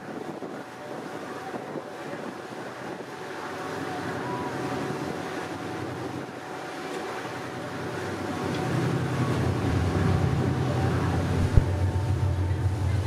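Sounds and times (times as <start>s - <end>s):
rushing wind: 0.0s - 6.8s, 7.9s - 13.0s
churning wake water: 0.0s - 13.0s
low engine rumble: 2.0s - 13.0s.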